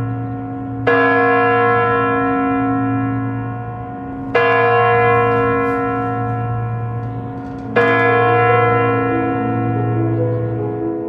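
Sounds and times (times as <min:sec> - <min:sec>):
deep bell ringing: 0:00.9 - 0:10.5.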